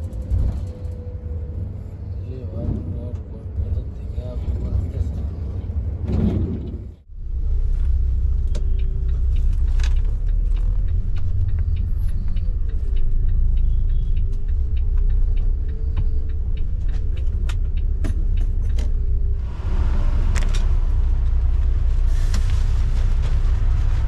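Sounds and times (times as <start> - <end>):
moving bus rumble: 0.0 - 24.0.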